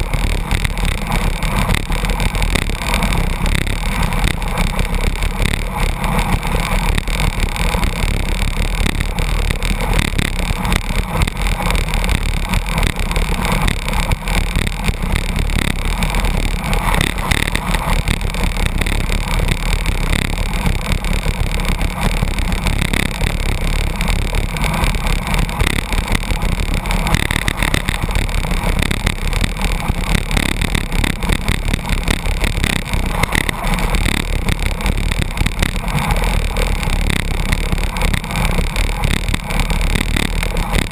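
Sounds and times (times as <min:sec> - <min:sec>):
road and truck noise: 0:00.0 - 0:40.9.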